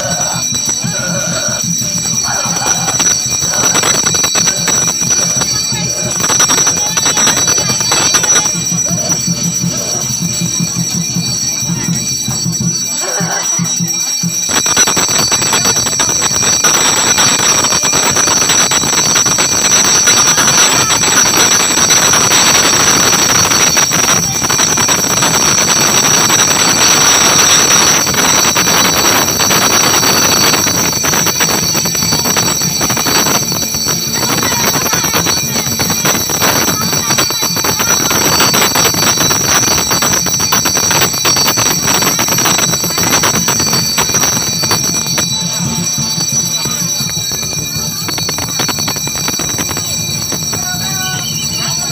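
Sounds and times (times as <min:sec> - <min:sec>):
crowd noise: 0:00.0 - 0:51.9
hand bells ringing rapidly: 0:00.0 - 0:51.9
ritual percussion: 0:00.0 - 0:51.9.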